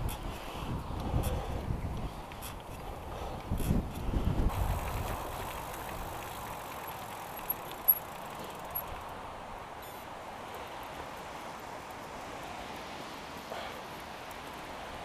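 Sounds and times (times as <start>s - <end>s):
bicycle tyre and wind noise: 0.0s - 15.0s.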